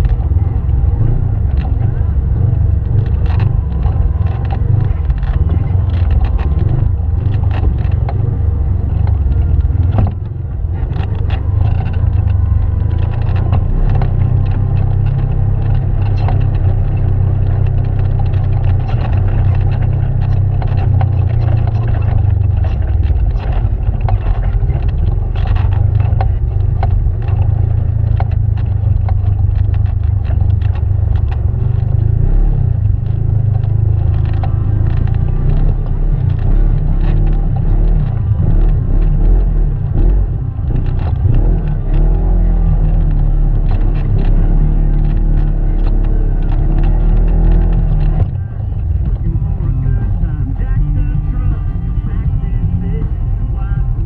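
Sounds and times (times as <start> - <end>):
low engine rumble: 0.0 - 54.0.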